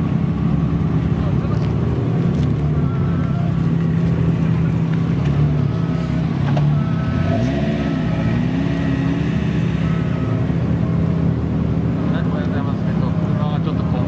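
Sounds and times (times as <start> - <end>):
sports car engines idling: 0.0 - 14.0.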